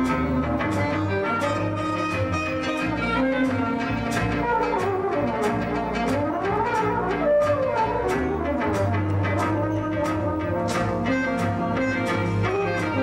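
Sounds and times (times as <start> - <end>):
bass: 0.0 - 13.0
brass horn melody: 0.0 - 13.0
saxophone melody: 0.0 - 13.0.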